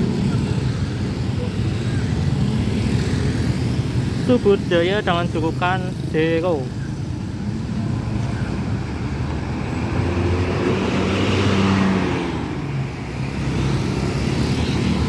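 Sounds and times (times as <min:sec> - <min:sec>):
bus diesel engine passing: 0:00.0 - 0:15.0
road traffic noise: 0:00.0 - 0:15.0.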